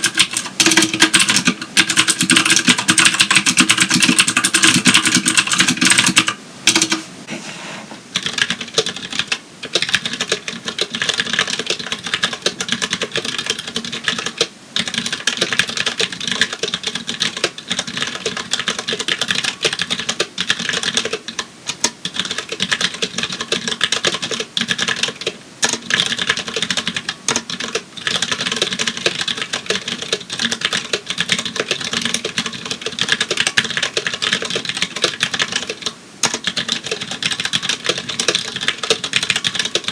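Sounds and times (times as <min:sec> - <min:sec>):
fast typing on mechanical keyboard: 0:00.0 - 0:07.0, 0:08.2 - 0:39.9.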